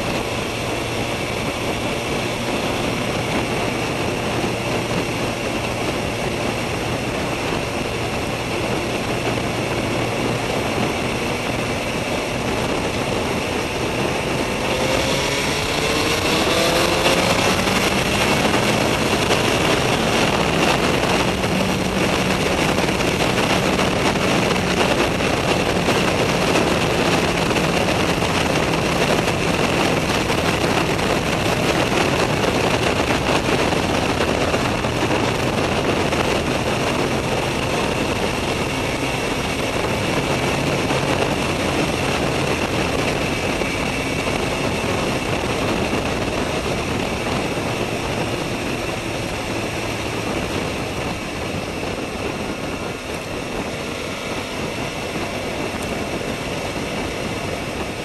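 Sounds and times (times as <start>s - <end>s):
motorcycle engine at speed: 0.0s - 58.0s
wind rush on microphone: 0.0s - 58.0s.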